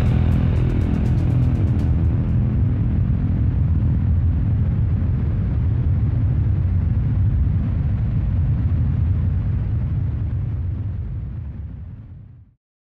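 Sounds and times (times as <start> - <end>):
deep steady rumble: 0.0 - 12.5.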